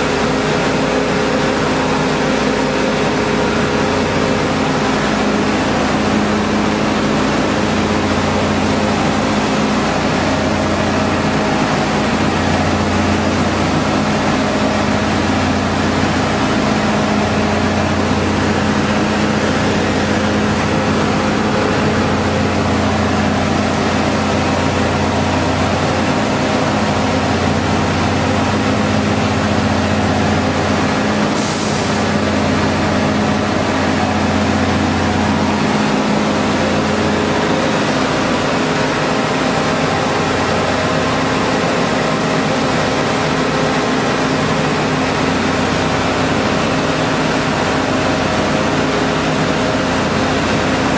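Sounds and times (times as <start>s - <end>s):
loud machine hum: 0.0s - 50.9s.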